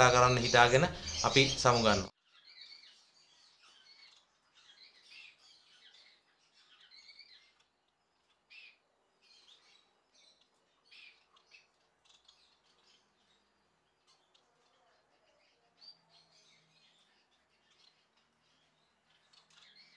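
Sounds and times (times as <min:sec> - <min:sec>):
finches chirping: 0:00.0 - 0:19.9.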